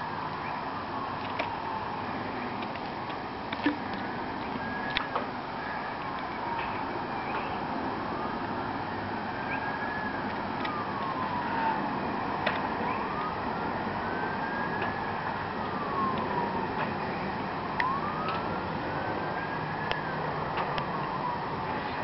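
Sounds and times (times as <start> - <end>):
fire truck siren wailing: 0.0 - 22.0.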